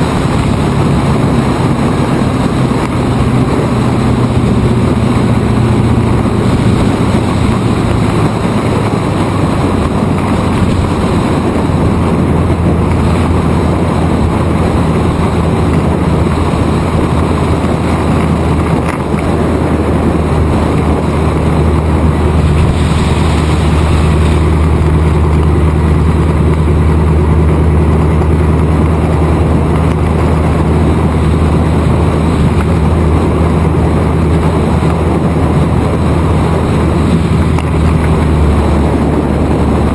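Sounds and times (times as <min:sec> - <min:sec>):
race car engine at full throttle: 0:00.0 - 0:39.9
wind rushing over microphone: 0:00.0 - 0:39.9.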